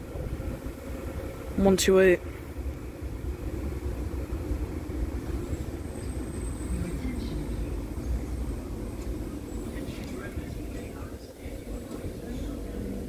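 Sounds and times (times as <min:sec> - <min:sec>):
faint high whine: 0:00.0 - 0:13.0
train rumbling: 0:00.0 - 0:13.0.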